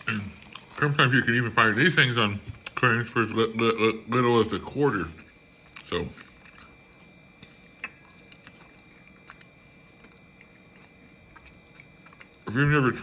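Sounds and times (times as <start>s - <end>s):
faint chewing: 0.0s - 2.9s, 4.9s - 13.0s.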